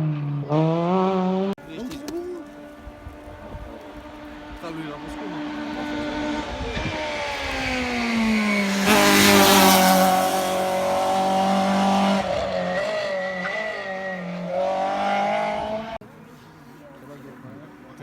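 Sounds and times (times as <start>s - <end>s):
race car engine at high revs: 0.0s - 1.6s, 2.5s - 16.0s
car passing rush: 0.0s - 16.6s.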